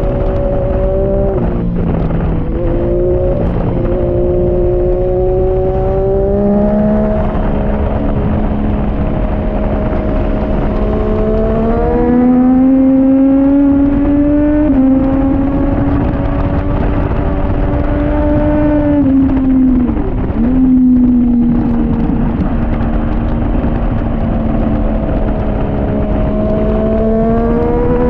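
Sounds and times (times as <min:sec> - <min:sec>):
motorcycle engine revving high: 0:00.0 - 0:28.0
wind noise: 0:00.0 - 0:28.0.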